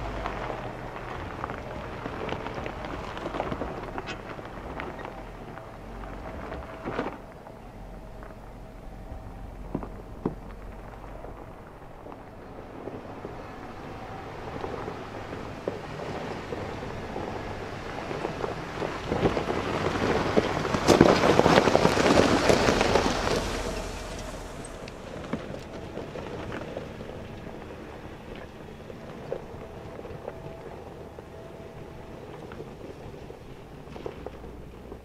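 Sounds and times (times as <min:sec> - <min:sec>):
car engine running: 0:00.0 - 0:35.0
tyres crunching on gravel: 0:00.0 - 0:35.0.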